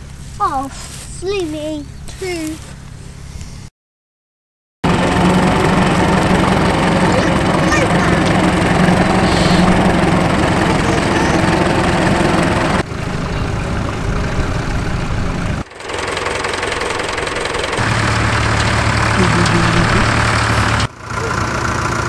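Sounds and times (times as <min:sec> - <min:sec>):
tractor engines running under load: 0:00.0 - 0:03.3, 0:04.8 - 0:22.0.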